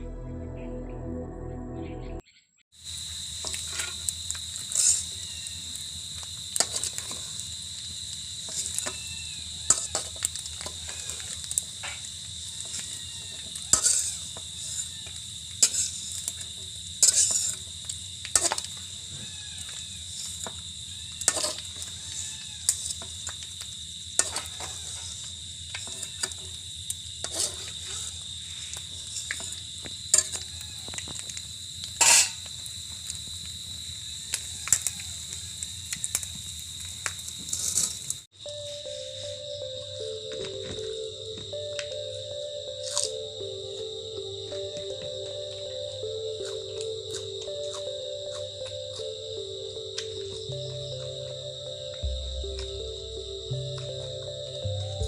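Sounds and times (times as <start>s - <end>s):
high-pitched insect drone: 2.8s - 32.4s, 33.1s - 55.0s.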